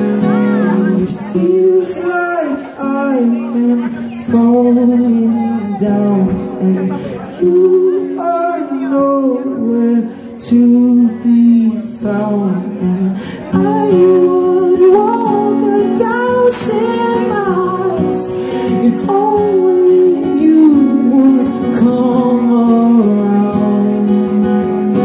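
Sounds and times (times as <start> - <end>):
acoustic guitar: 0.0 - 25.0
man singing: 0.0 - 25.0.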